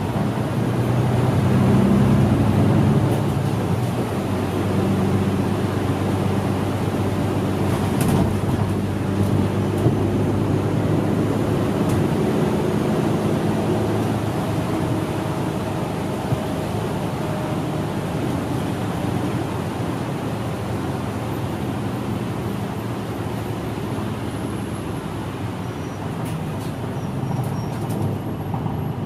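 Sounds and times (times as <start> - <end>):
bus engine droning: 0.0 - 29.0.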